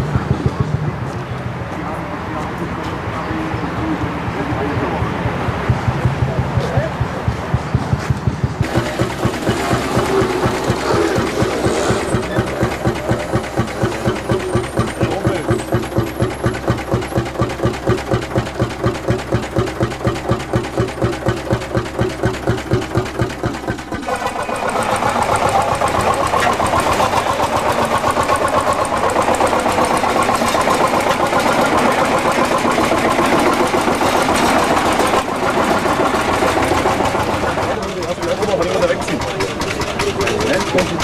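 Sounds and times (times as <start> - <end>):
vintage engine running: 0.0 - 2.0, 3.0 - 41.0
busy engine running: 0.0 - 41.0.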